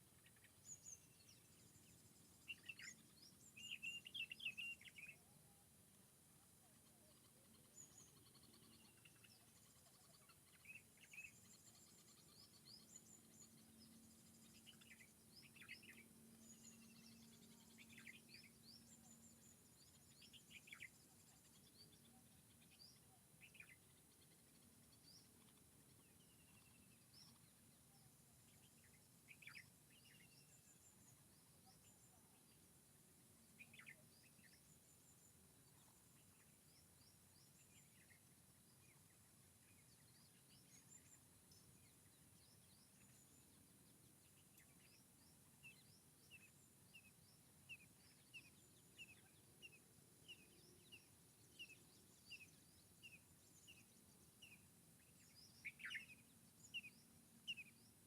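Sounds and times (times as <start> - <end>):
bird chirps: 0.0 - 5.7, 6.5 - 32.8, 33.4 - 58.0
steady background hiss: 0.0 - 58.0.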